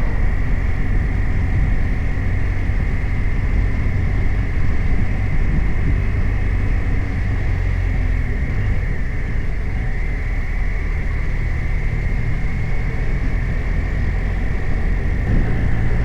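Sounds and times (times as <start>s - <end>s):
motorcycle engine running: 0.0s - 16.0s
rush of noise: 0.0s - 16.0s.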